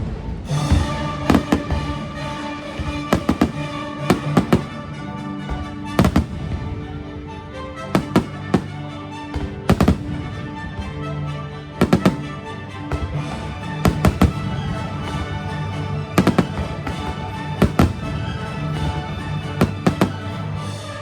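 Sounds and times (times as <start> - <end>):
music soundtrack: 0.0 - 21.0
fireworks bangs: 0.5 - 8.8, 9.4 - 11.0, 11.8 - 20.6.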